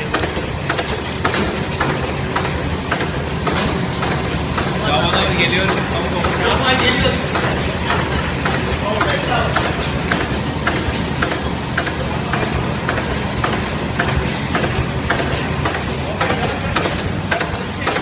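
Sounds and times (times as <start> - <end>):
laminating machine running: 0.0 - 18.0.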